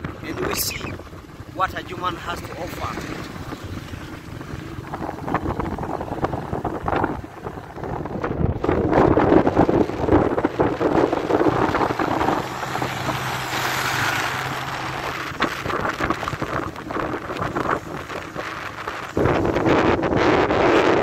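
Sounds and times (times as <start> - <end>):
motorcycle engine humming: 0.0 - 21.0
wind buffeting microphone: 0.0 - 21.0.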